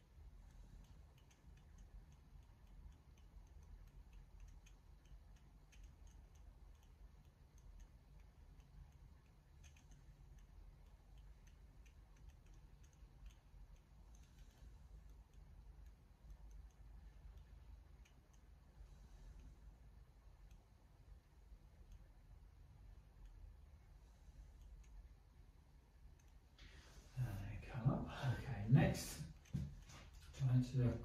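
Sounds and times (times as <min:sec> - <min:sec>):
faint ticks and clicks: 0:00.0 - 0:27.4
low steady rumble: 0:00.0 - 0:31.0.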